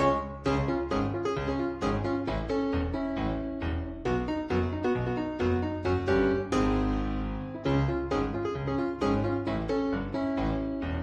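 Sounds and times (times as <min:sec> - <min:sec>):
piano-like keyboard notes: 0:00.0 - 0:11.0.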